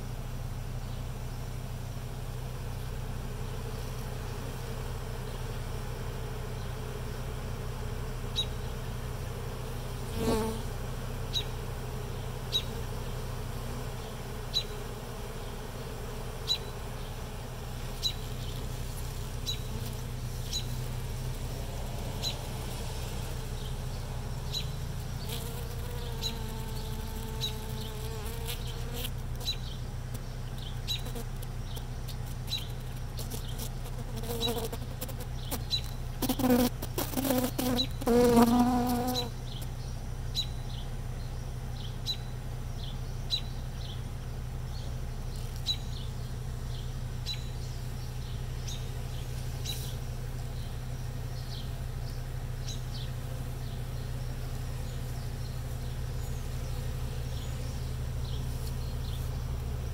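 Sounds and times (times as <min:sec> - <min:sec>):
bee buzzing close by: 0:02.4 - 0:39.7, 0:45.2 - 0:59.9
bees buzzing: 0:03.0 - 0:39.7, 0:45.2 - 0:59.9.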